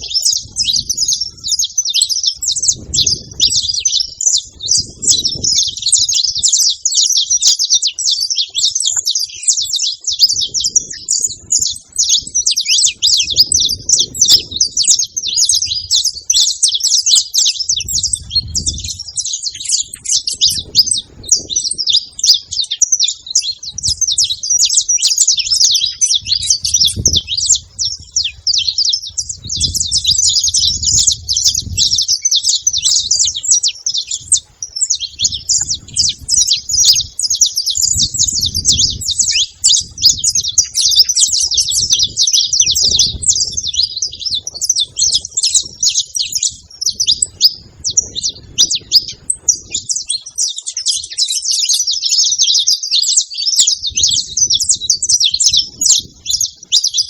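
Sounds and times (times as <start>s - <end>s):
finches chirping and singing: 0.0s - 57.0s.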